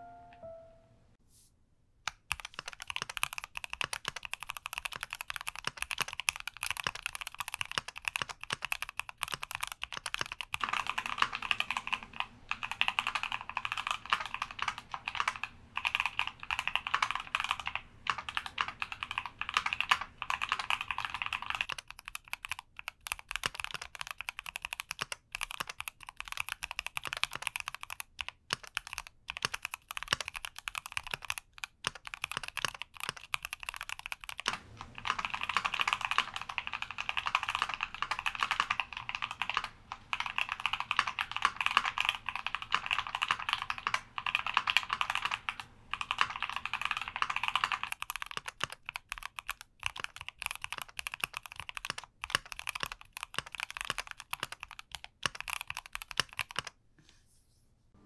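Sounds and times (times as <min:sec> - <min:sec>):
mechanical keyboard typing: 0:02.1 - 0:56.8.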